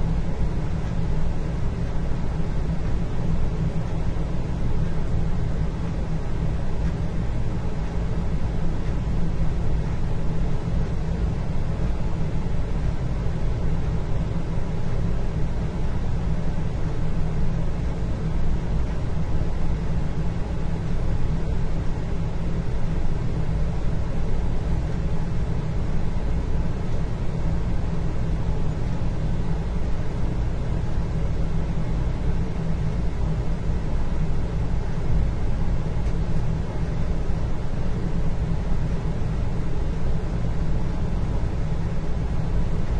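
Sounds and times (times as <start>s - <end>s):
faint hum: 0.0s - 42.9s
low room rumble: 0.0s - 42.9s.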